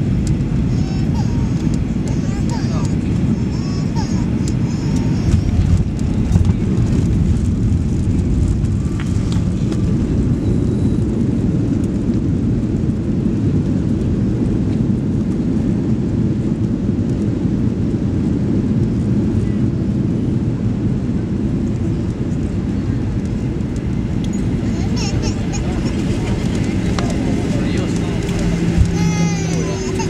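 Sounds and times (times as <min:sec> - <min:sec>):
airplane cabin roar: 0:00.0 - 0:30.0.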